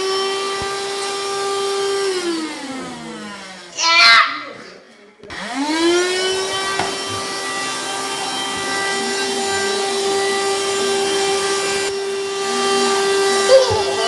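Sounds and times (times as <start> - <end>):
handheld vacuum cleaner whine: 0.0 - 3.8, 5.2 - 14.0.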